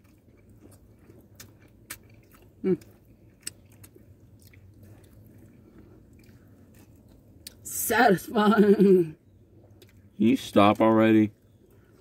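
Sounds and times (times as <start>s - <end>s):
people chewing food: 0.0s - 7.7s, 8.8s - 12.0s.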